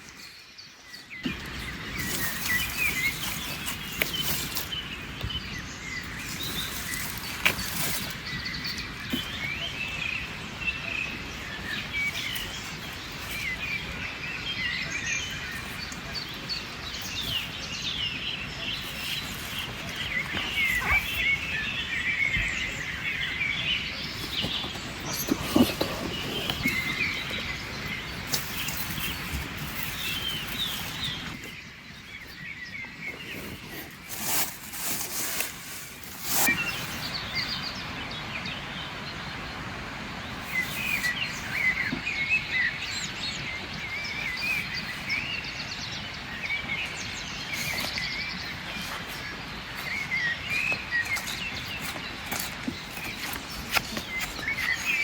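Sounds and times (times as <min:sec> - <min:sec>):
small birds chirping and singing: 0:00.0 - 0:55.0
steady outdoor hiss: 0:00.0 - 0:55.0.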